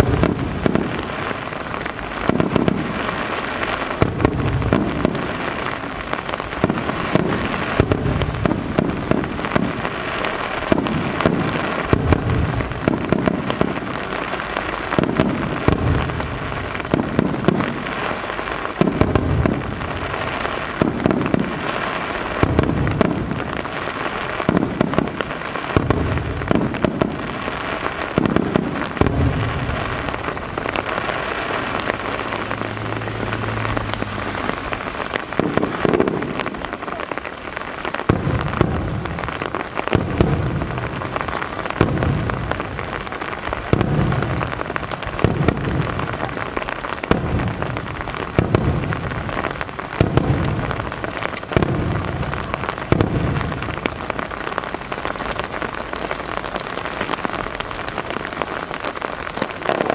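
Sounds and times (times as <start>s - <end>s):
firework bursts booming: 0.0s - 59.9s
rain pattering: 0.0s - 59.9s.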